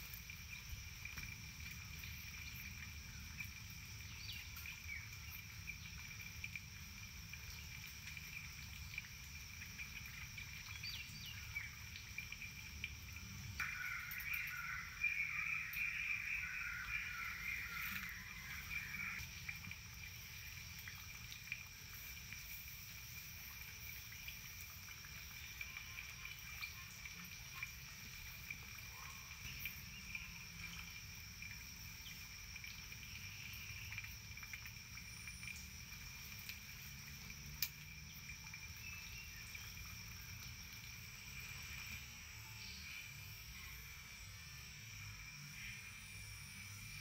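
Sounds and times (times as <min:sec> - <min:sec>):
high-pitched insect drone: 0:00.0 - 0:47.0
small ticks: 0:00.0 - 0:47.0.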